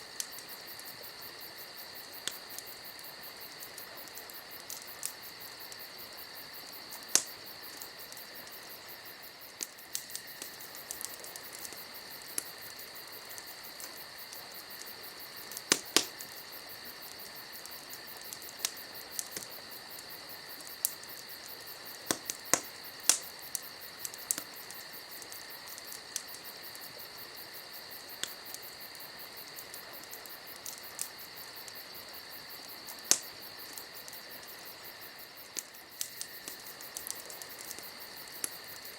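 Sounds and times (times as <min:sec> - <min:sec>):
campfire crackling and popping: 0:00.0 - 0:38.9
crickets chirring: 0:00.0 - 0:38.9.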